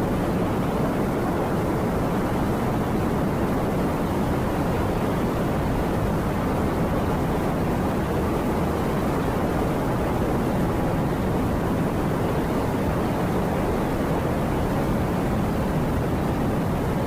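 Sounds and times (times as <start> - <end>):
strong storm wind: 0.0 - 17.0.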